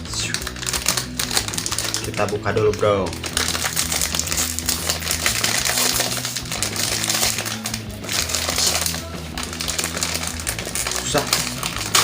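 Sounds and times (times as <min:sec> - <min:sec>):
background music: 0:00.0 - 0:12.0
plastic packet crinkling: 0:00.1 - 0:12.0.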